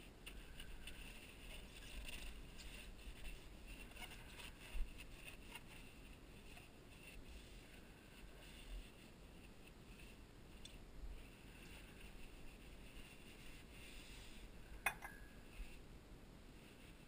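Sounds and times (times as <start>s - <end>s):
paper towel rustling and rubbing: 0.0s - 14.8s, 16.6s - 17.0s
small scrapes and clicks: 0.0s - 15.8s.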